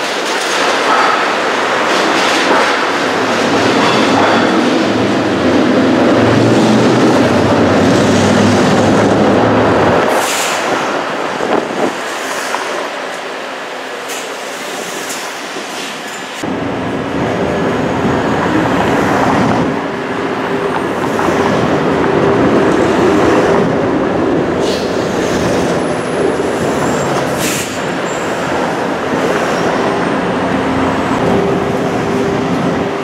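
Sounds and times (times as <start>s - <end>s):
streetcar motor hum: 0.0s - 33.0s
wheels rumbling on rails: 0.0s - 33.0s.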